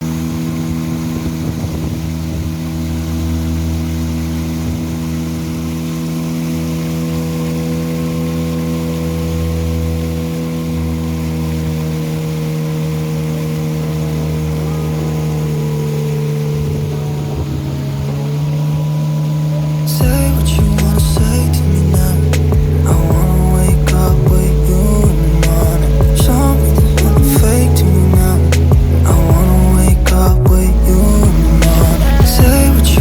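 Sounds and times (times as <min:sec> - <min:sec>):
small boat engine running: 0:00.0 - 0:33.0.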